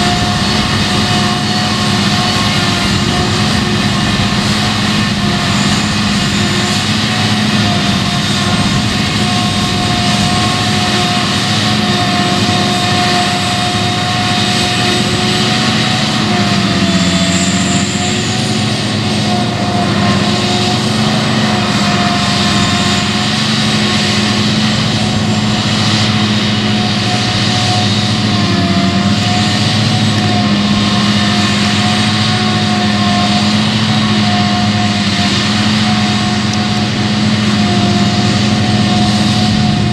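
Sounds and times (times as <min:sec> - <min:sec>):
harvester engine and chopper drone: 0:00.0 - 0:39.9.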